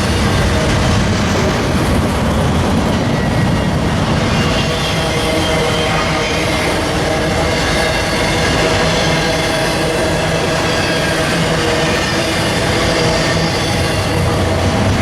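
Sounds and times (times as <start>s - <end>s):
high tones from train wheels: 0.0s - 15.0s
train wheels rumbling on rails: 0.0s - 15.0s.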